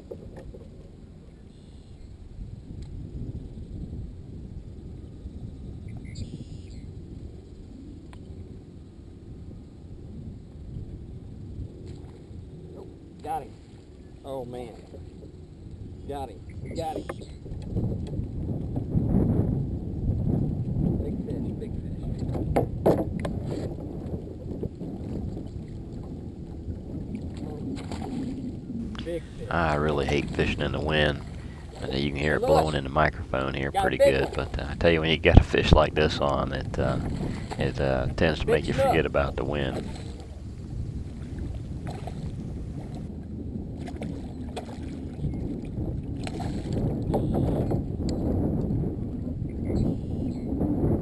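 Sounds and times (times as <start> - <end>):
wind buffeting microphone: 2.3 - 7.4, 14.9 - 51.0.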